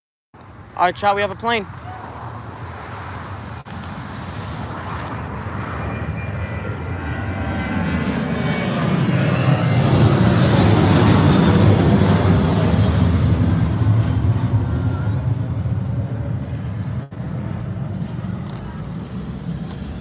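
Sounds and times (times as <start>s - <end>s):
airliner engines rumbling: 0.4s - 20.0s.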